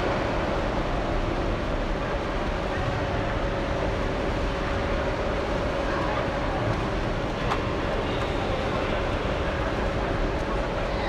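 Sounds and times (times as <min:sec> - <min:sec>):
indoor pool hall rumble: 0:00.0 - 0:11.0.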